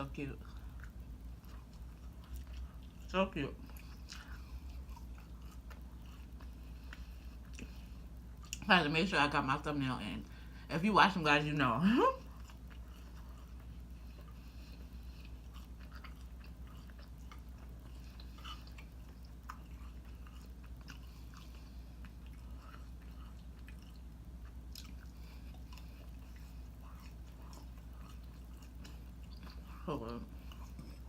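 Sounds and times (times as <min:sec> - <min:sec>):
steady low hum: 0:00.0 - 0:31.0
person chewing food: 0:00.4 - 0:08.7, 0:12.2 - 0:31.0.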